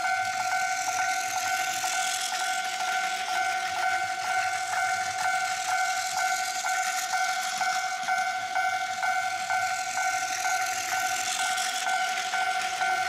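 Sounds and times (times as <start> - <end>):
toy crossing warning bell: 0.0 - 13.0
toy train whirring on track: 0.0 - 13.0.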